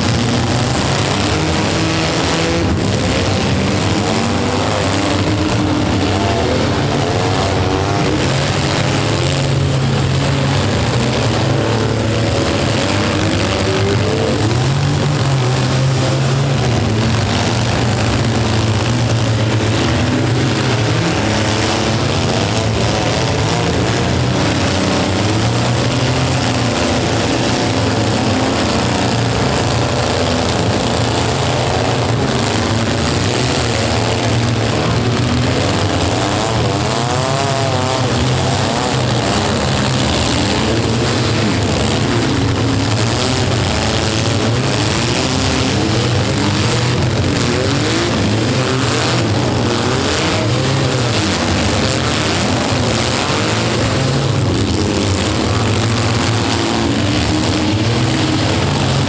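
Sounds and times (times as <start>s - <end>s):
vehicle engines revving hard: 0.0s - 59.0s.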